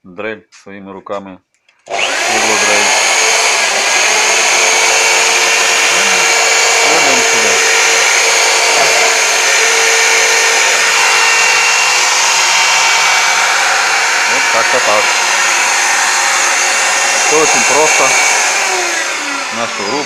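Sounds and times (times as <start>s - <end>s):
electric drill motor whining: 1.9s - 20.0s.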